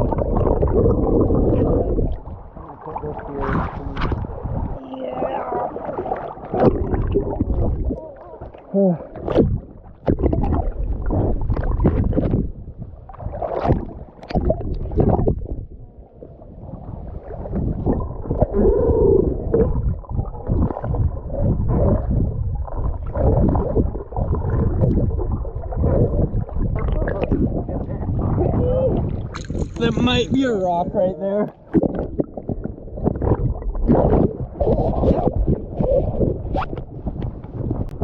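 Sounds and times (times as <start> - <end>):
wind buffeting microphone: 0.0 - 8.1, 9.2 - 38.0.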